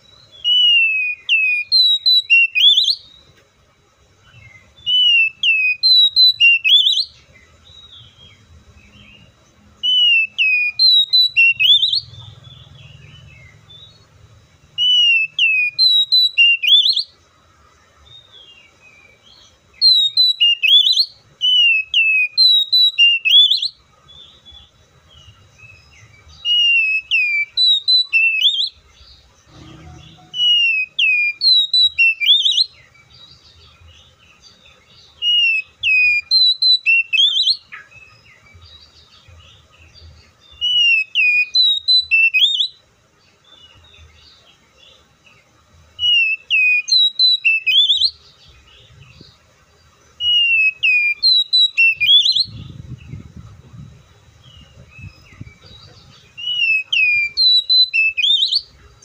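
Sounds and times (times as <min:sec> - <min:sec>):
bird singing whistled notes: 0:00.0 - 0:03.4, 0:04.0 - 0:59.0.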